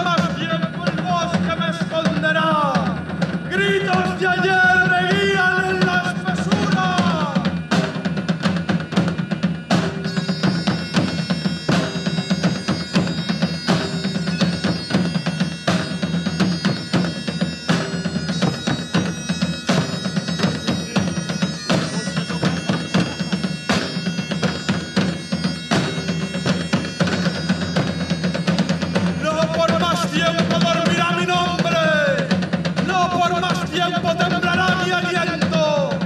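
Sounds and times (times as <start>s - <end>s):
drums beating: 0.0s - 36.0s
bagpipe melody over drone: 2.8s - 32.7s.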